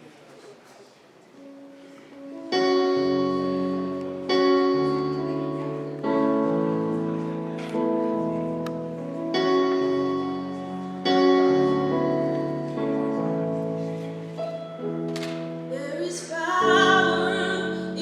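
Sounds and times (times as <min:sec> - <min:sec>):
slow piano chords: 0:01.3 - 0:18.0.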